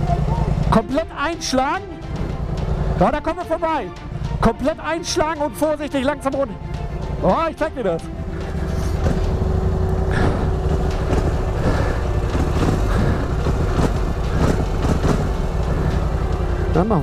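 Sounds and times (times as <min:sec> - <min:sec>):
quad engine running at low revs: 0:00.0 - 0:05.3, 0:06.0 - 0:17.0.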